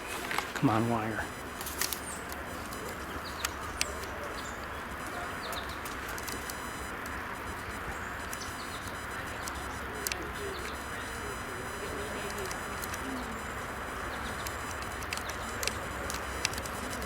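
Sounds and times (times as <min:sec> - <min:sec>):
small birds chirping: 0:00.0 - 0:17.0
steady outdoor hiss: 0:00.0 - 0:17.0
sharp clicks: 0:00.3 - 0:17.0.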